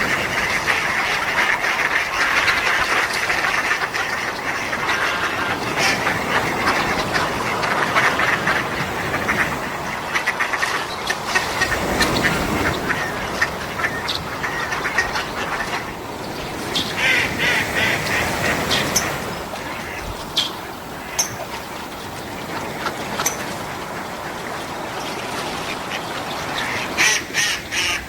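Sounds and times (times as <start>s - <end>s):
sea waves on a beach: 0.0s - 28.0s.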